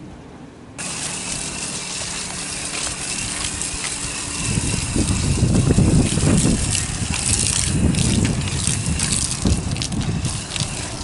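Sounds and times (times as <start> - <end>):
water splashing on pavement: 0.8 - 11.0
water spray hissing: 0.8 - 11.0.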